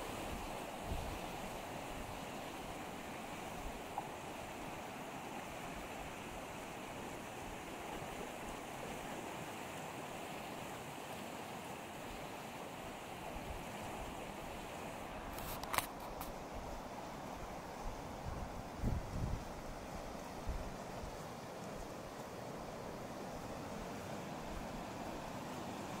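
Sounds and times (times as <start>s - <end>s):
rushing stream water: 0.0s - 26.0s.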